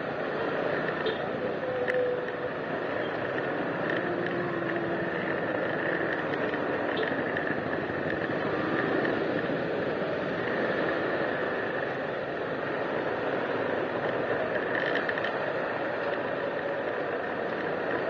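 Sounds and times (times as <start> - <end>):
motor scooter engine rattling: 0.0 - 18.0
road noise: 0.0 - 18.0.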